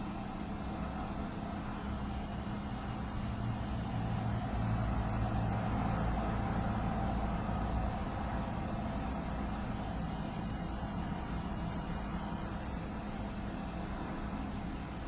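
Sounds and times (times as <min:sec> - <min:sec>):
hard drive high-pitched whine: 0:00.0 - 0:15.0
steady hiss: 0:00.0 - 0:15.0.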